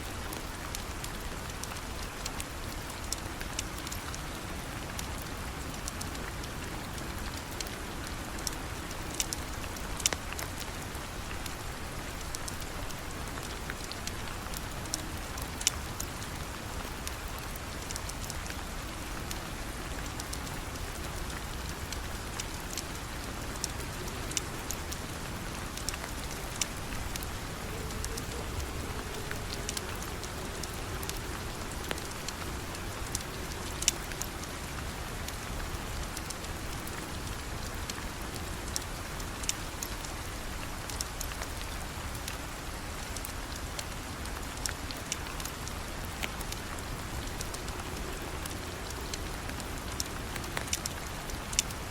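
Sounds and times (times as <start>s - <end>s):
steady rain falling: 0.0s - 51.9s
sharp ticks and crackles: 0.2s - 51.9s.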